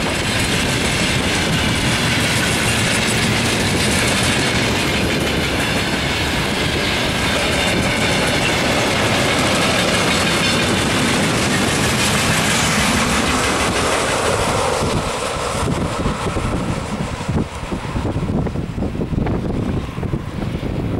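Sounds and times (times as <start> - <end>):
train wheels rolling on rails: 0.0 - 20.9
wind on microphone: 0.0 - 20.9.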